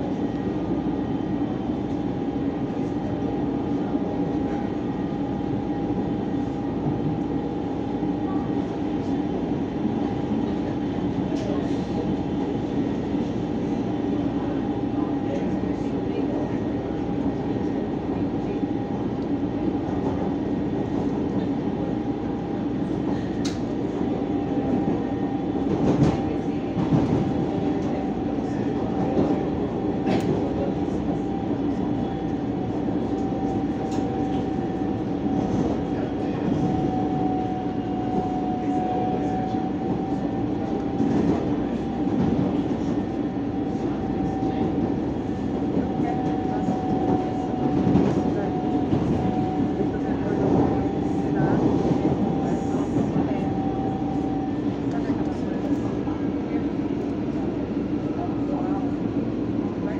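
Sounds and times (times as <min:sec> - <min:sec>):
electric train rumble: 0:00.0 - 0:59.9.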